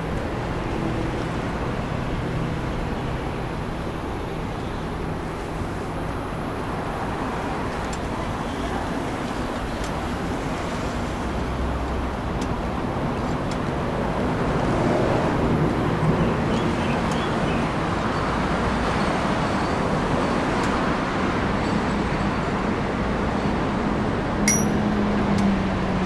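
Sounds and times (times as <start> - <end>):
cars and buses passing: 0.0 - 26.0.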